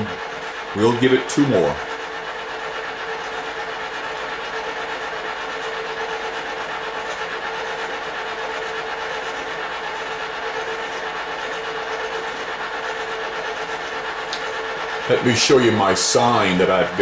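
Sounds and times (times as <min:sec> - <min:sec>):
popcorn machine motors whirring: 0:00.0 - 0:17.0.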